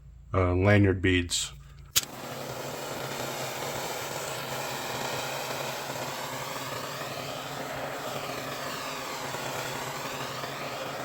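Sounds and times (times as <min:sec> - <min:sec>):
rushing mechanical drone: 0:02.2 - 0:11.0.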